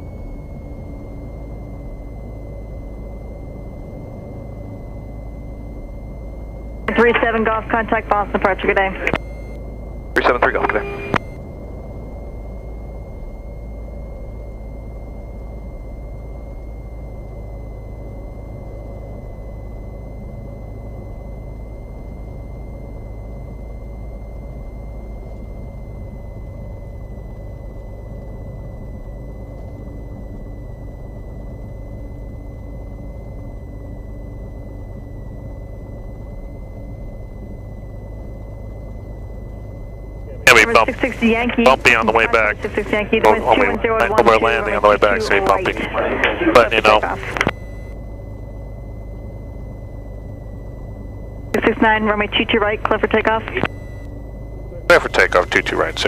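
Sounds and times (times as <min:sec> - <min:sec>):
airplane engine idling: 0:00.0 - 0:56.0
thin steady whine: 0:00.0 - 0:56.0.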